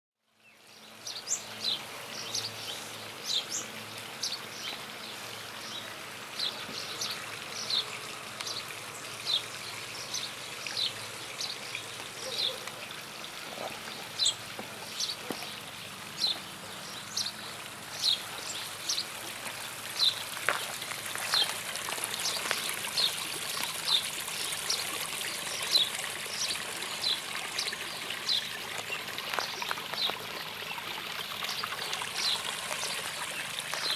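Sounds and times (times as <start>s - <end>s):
trickle of running water: 0.4s - 33.9s.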